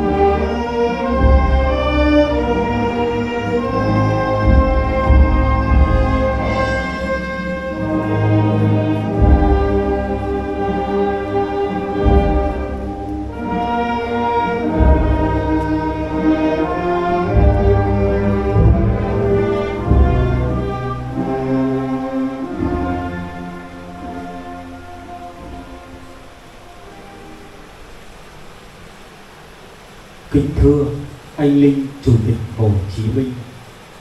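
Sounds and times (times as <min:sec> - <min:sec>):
orchestral music with held notes: 0:00.0 - 0:28.9.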